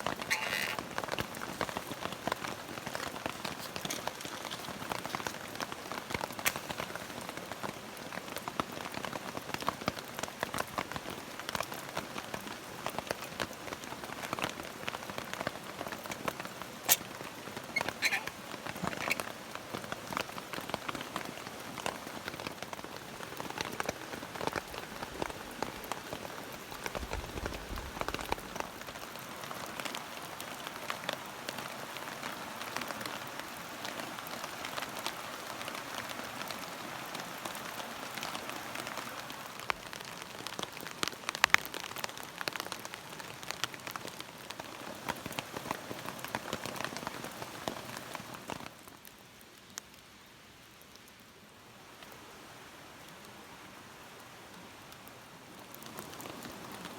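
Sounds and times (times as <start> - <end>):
rain drops pattering: 0.0 - 56.9.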